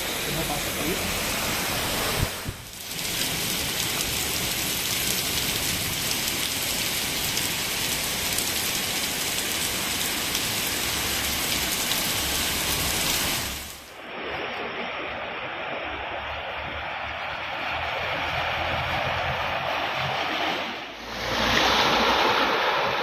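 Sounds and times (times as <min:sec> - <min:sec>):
torrential rain on street: 0:00.0 - 0:23.0.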